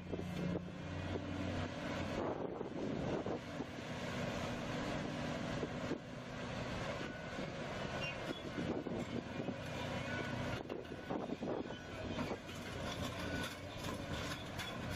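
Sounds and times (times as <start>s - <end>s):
heavy machinery drone: 0.0s - 14.9s.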